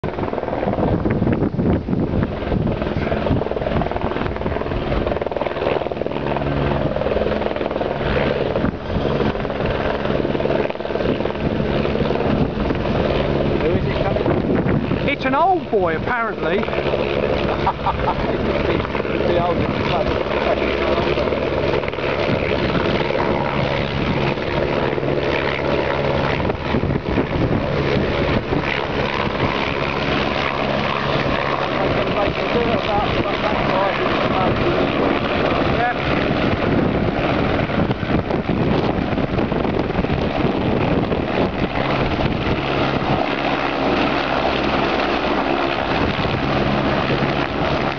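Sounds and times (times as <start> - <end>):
helicopter rotors and engine: 0.0 - 47.9.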